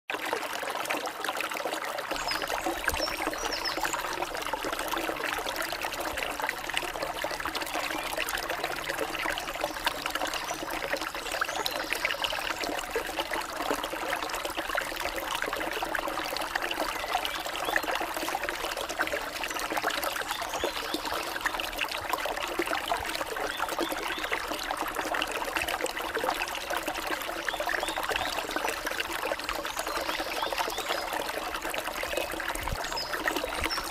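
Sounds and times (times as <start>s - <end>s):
stream water babbling: 0.1s - 33.9s.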